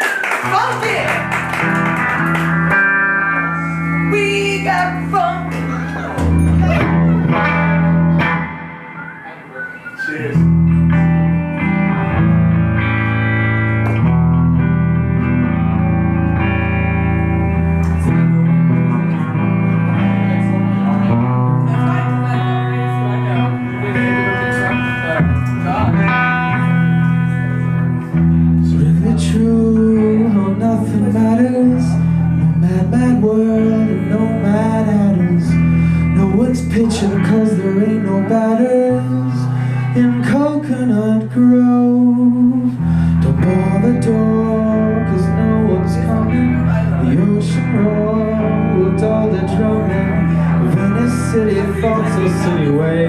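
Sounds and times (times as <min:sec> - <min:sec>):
guitar chords: 0:00.0 - 0:53.0
bass line: 0:00.5 - 0:09.0, 0:10.2 - 0:53.0.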